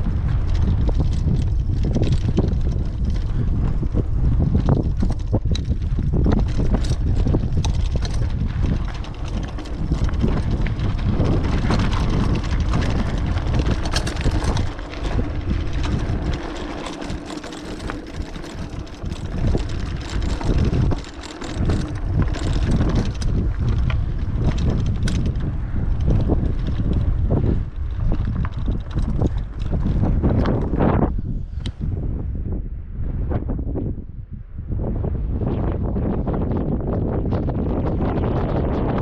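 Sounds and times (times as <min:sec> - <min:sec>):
bicycle clicks and rattles: 0:00.0 - 0:31.9
wind buffeting microphone: 0:00.0 - 0:39.0.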